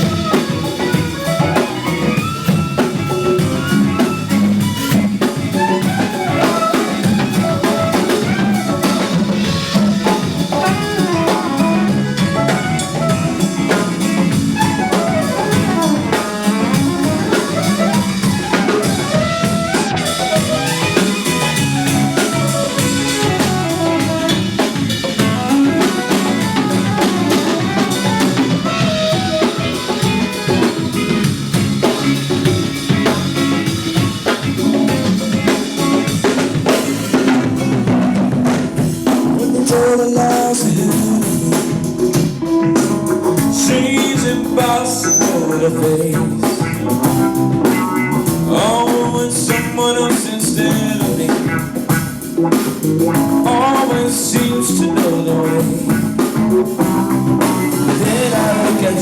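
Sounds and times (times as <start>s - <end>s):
drum kit groove: 0.0s - 59.0s
live band playing: 0.0s - 59.0s.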